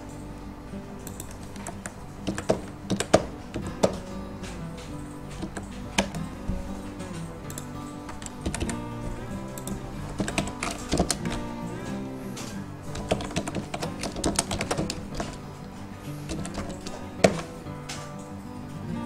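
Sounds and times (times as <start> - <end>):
background music: 0.0 - 19.0
keyboard typing clicks: 1.0 - 18.3.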